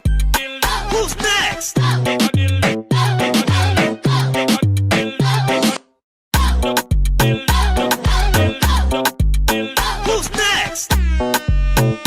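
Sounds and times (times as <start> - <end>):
song with heavy bass beat: 0.0 - 5.8, 6.4 - 12.0.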